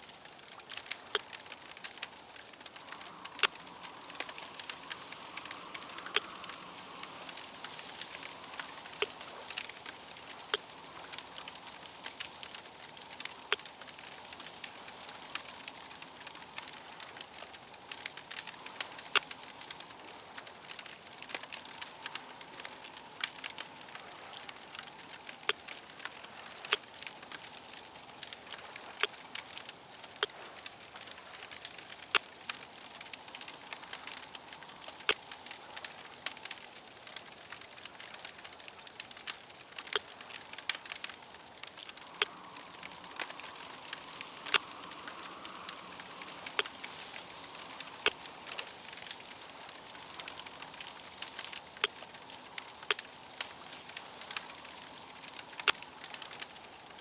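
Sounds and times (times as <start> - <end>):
fire crackling and popping: 0.0 - 57.0
soft hiss: 0.0 - 57.0.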